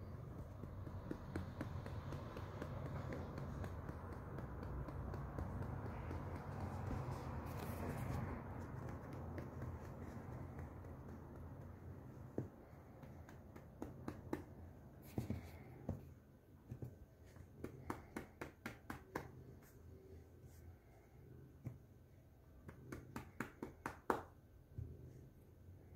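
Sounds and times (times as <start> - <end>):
hand patting cat fur: 0.0 - 25.3.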